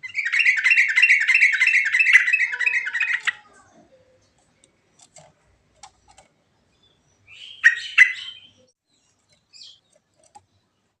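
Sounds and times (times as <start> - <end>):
bird singing: 0.0 - 5.2, 5.9 - 11.0.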